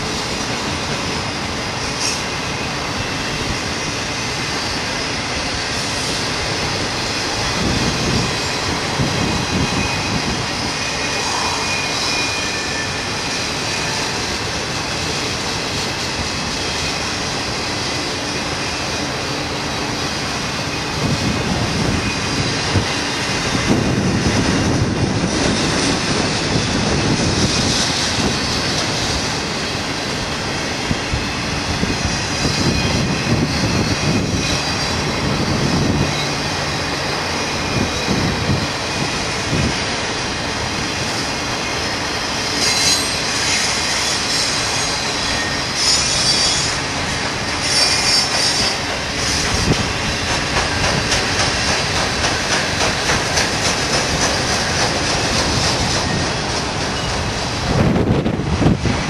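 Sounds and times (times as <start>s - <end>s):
freight train wheels rumbling: 0.0s - 59.0s
high wheel squeal: 1.1s - 57.9s.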